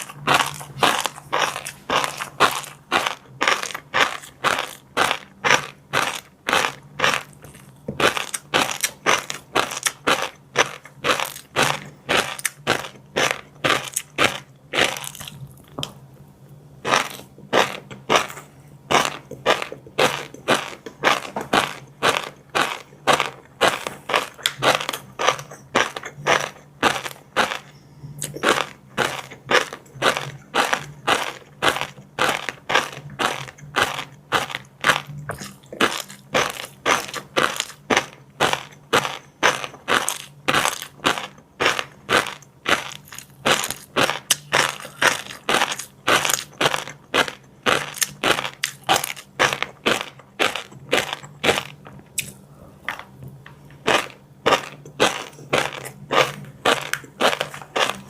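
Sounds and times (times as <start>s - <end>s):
chewing crunchy food: 0.0s - 58.0s.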